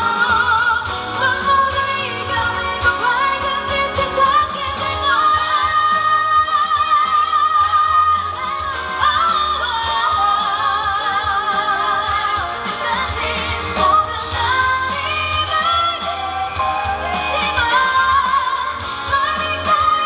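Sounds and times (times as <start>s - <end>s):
backing track: 0.0s - 20.0s
woman singing: 0.0s - 20.0s.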